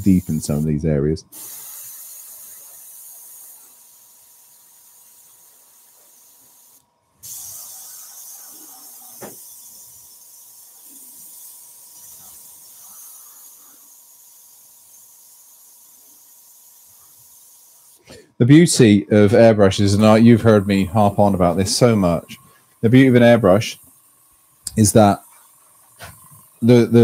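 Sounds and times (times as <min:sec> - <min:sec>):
airbrush hissing: 0:00.0 - 0:27.0.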